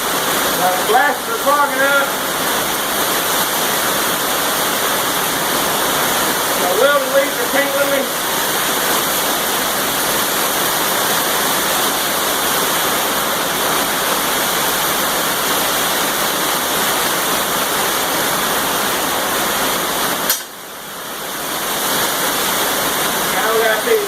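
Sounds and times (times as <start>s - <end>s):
arc welder frying hiss: 0.0s - 24.0s.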